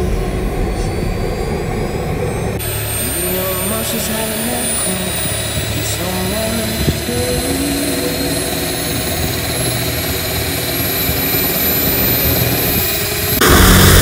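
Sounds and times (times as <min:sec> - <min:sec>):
model jet turbine whine: 0:00.0 - 0:14.0.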